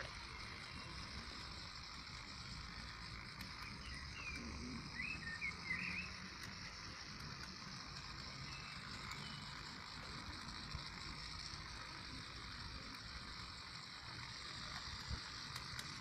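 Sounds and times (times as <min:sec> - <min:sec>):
model train motor whirring: 0:00.0 - 0:16.0
wheels rolling on metal track: 0:00.0 - 0:16.0.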